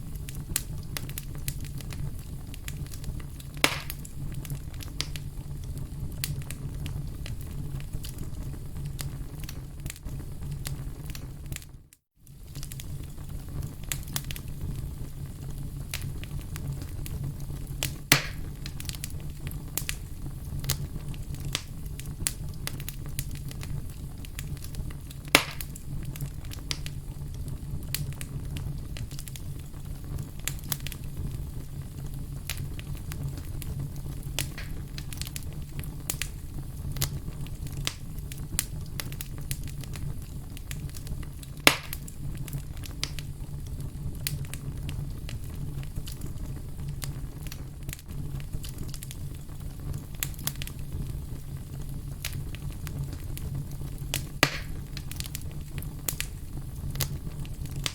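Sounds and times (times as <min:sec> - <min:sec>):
wood fire crackling: 0:00.0 - 0:57.9
burning wood popping: 0:00.1 - 0:57.9.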